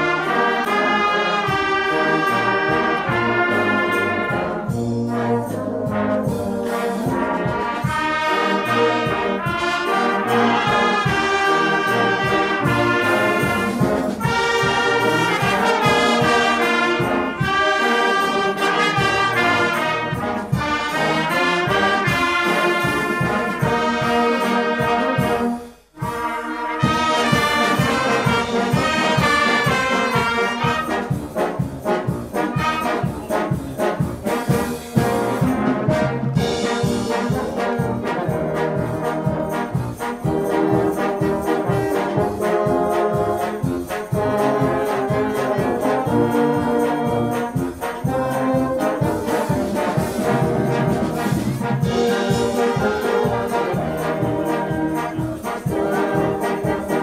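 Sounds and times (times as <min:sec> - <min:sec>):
brass band playing a carol: 0:00.0 - 0:57.0.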